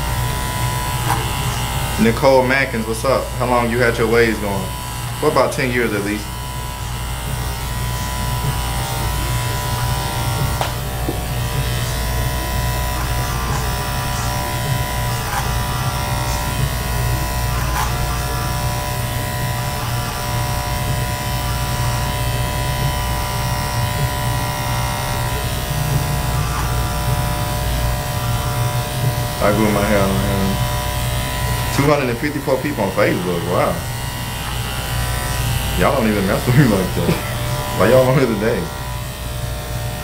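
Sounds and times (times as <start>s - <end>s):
electric hair clippers buzzing: 0.0s - 40.0s.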